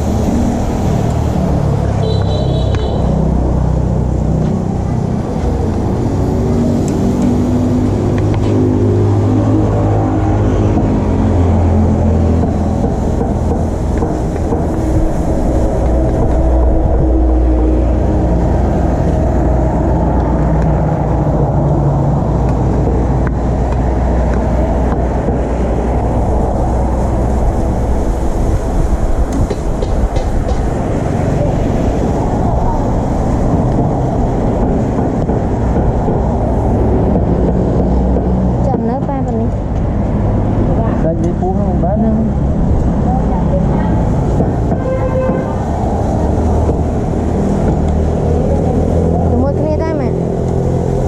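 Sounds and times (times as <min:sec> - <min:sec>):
low street rumble: 0:00.0 - 0:51.0.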